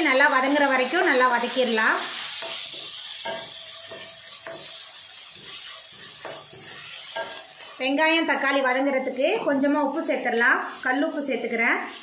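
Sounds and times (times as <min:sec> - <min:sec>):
onions sizzling in oil: 0:00.0 - 0:12.0
spatula scraping pan: 0:00.0 - 0:12.0.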